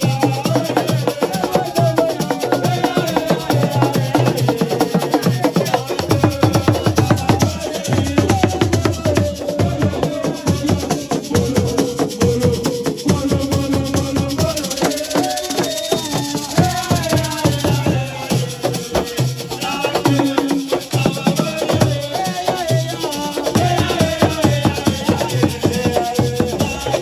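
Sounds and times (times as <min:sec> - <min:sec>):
fast rattling percussion and drums: 0:00.0 - 0:27.0.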